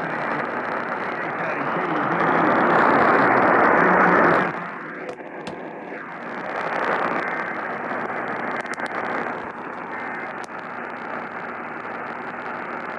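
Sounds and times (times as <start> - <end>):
radio static hiss: 0.0 - 12.9.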